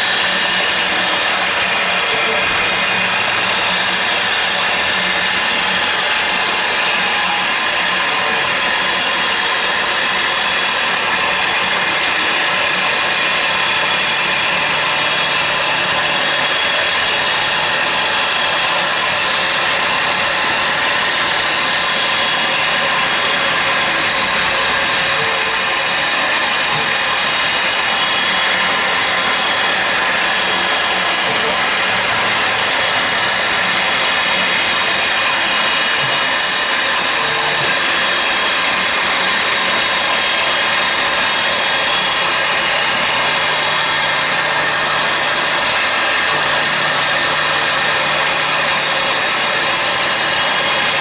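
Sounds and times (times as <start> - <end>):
machine tool whirring: 0.0 - 51.0.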